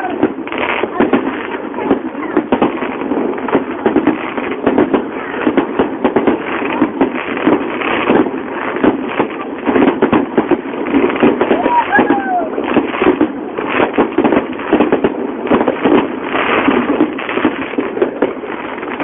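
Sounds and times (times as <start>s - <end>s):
fireworks barrage bangs: 0.0s - 19.0s.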